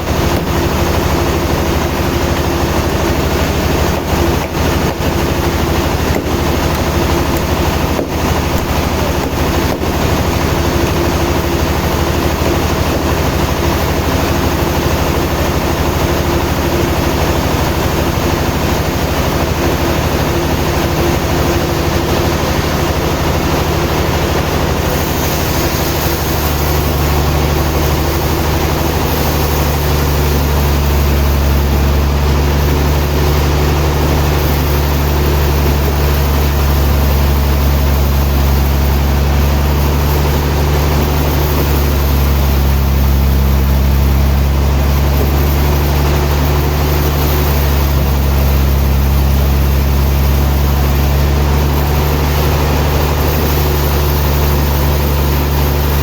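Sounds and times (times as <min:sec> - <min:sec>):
sawmill engine droning: 0:00.0 - 0:56.0.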